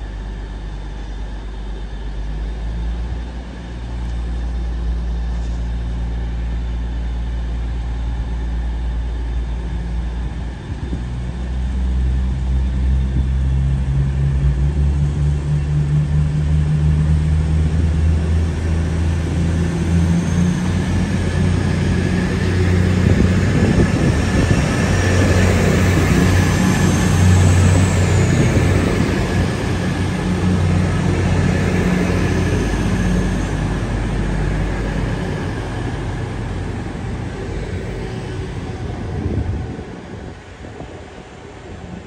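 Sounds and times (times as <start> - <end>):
diesel train engine droning: 0.0 - 42.0.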